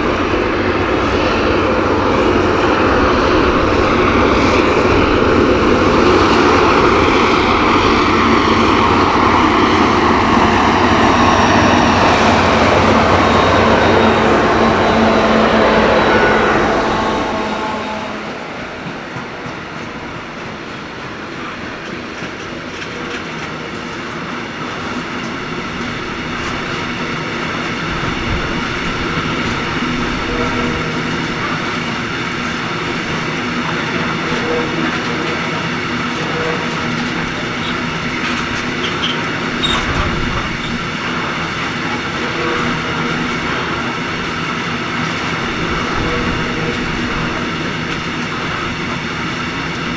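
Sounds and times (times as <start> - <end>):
diesel locomotive engine: 0.0 - 49.9
train wheels on rails: 0.0 - 49.9.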